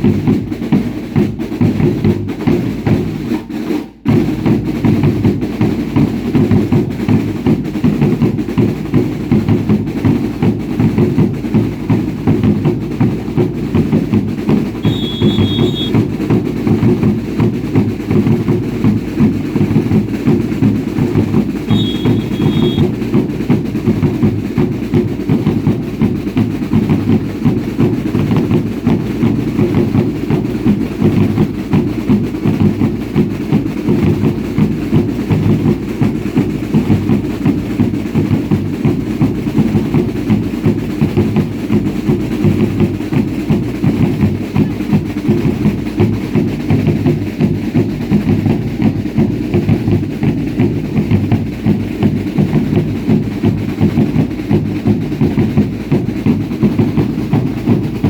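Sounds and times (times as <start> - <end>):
drums beating a fast rhythm: 0.0 - 58.0.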